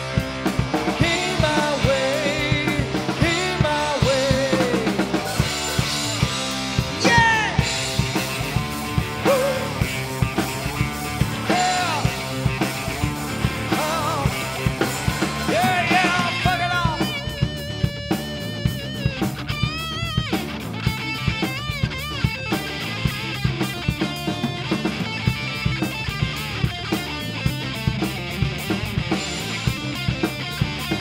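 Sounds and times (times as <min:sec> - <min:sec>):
drum kit beat: 0:00.0 - 0:31.0
grunge rock band playing: 0:00.0 - 0:31.0
sliding bending guitar notes: 0:01.9 - 0:29.6.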